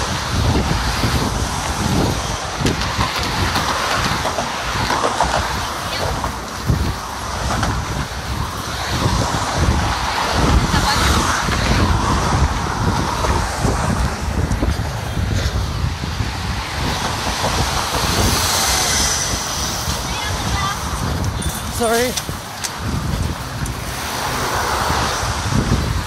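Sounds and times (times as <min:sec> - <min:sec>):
traffic rumble: 0:00.0 - 0:26.0
wind buffeting microphone: 0:00.0 - 0:26.0.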